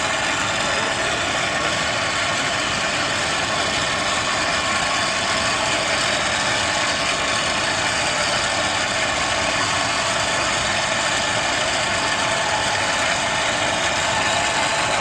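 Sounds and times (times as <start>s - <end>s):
pipe threading machine whining: 0.0s - 15.0s.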